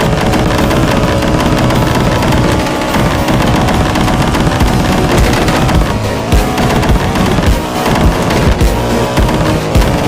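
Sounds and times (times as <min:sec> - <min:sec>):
motorcycle engine at high revs: 0:00.0 - 0:10.0.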